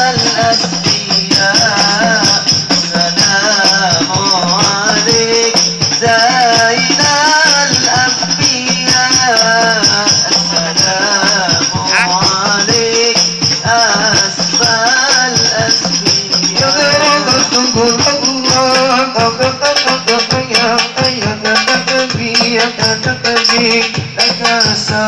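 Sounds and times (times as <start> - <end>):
frame drums: 0.0 - 25.0
jingling percussion: 0.0 - 25.0
man singing: 0.0 - 25.0.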